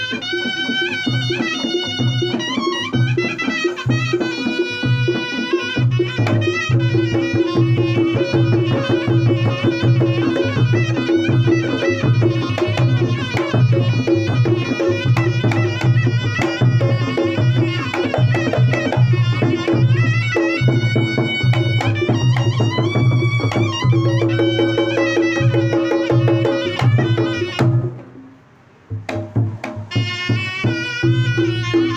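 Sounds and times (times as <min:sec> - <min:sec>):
drum beat: 0:00.0 - 0:28.1, 0:28.9 - 0:31.9
shawm melody: 0:00.0 - 0:31.9.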